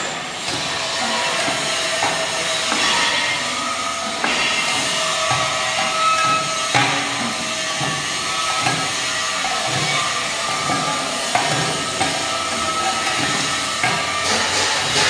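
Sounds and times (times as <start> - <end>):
block making machine rattling: 0.0 - 15.0.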